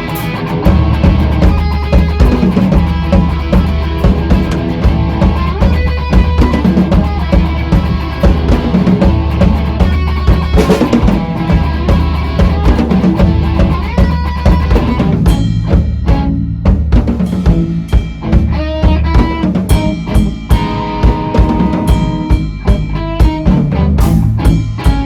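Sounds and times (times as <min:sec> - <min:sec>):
bass guitar: 0:00.0 - 0:25.0
distorted electric guitar: 0:00.0 - 0:25.0
drum kit kick and snare: 0:00.0 - 0:25.0.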